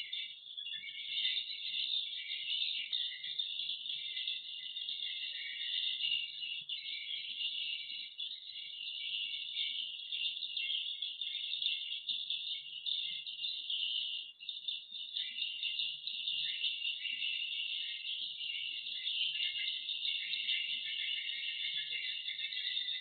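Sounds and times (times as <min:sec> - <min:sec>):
birds twittering chorus: 0:00.0 - 0:23.0.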